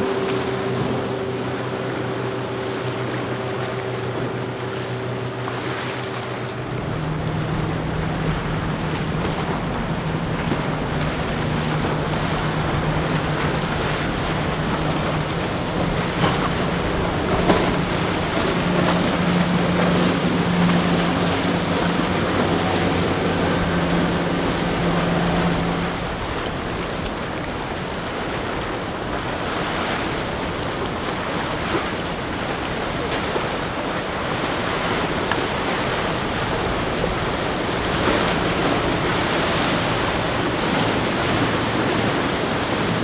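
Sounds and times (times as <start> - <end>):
motorboat engines running: 0.0 - 43.0
rushing water and waves: 0.0 - 43.0.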